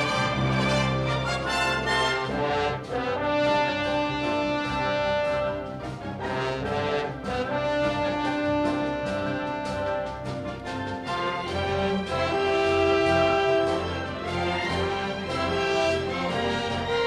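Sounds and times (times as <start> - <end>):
background music with held brass notes: 0.0 - 17.0.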